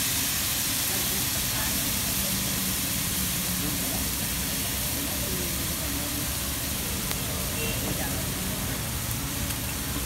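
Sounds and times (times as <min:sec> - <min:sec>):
food sizzling on iron griddle: 0:00.0 - 0:10.0.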